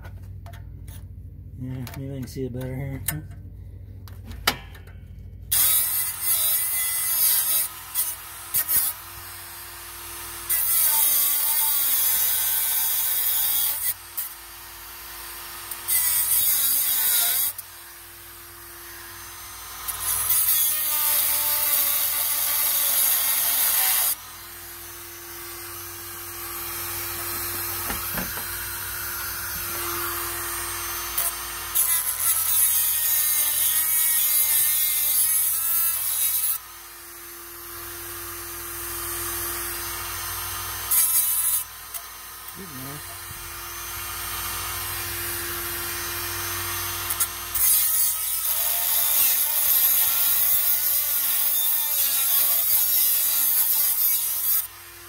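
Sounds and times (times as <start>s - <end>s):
rotary tool grinding metal: 5.5s - 55.0s
rotary tool motor running: 5.5s - 55.0s.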